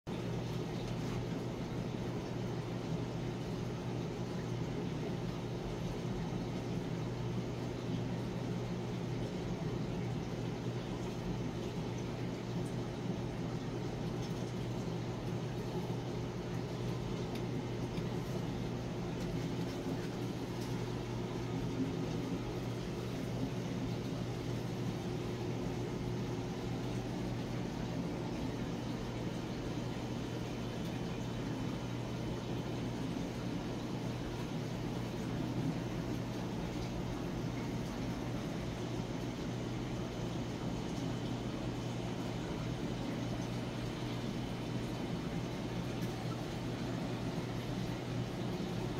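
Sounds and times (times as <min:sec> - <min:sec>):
aquarium equipment humming: 0:00.1 - 0:48.9
constant hiss: 0:00.1 - 0:48.9.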